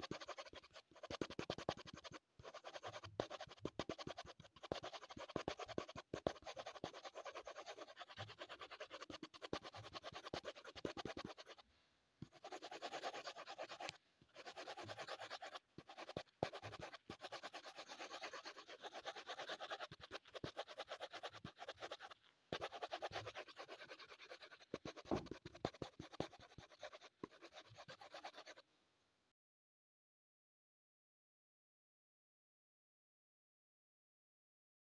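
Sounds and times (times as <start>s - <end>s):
pencil scratching on paper: 0.0s - 11.6s, 12.2s - 28.6s.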